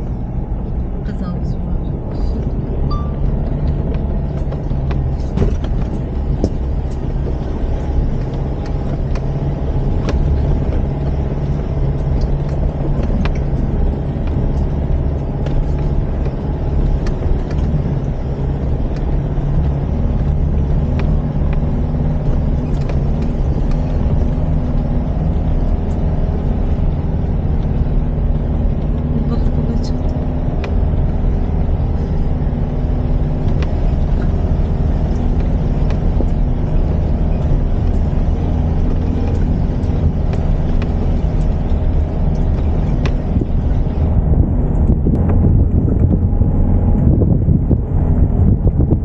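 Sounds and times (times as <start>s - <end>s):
truck engine humming: 0.0s - 49.0s.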